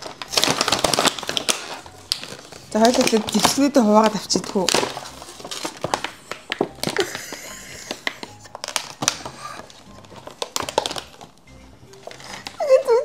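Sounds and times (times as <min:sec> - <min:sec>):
packaging clicks and taps: 0:00.0 - 0:12.6
packaging crinkling: 0:00.0 - 0:13.0.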